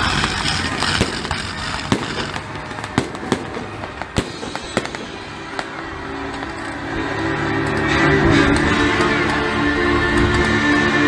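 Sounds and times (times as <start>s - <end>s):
firework bangs: 0.0s - 11.0s
hissing crackle of fireworks sparks: 0.0s - 11.0s.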